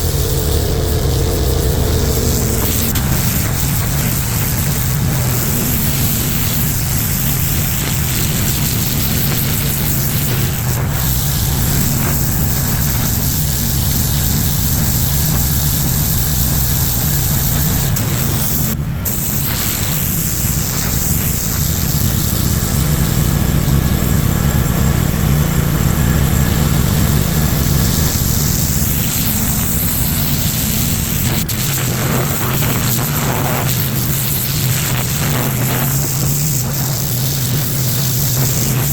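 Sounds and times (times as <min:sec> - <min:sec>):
high-pressure water spray hissing: 0:00.0 - 0:38.9
pressure washer engine running: 0:00.0 - 0:38.9.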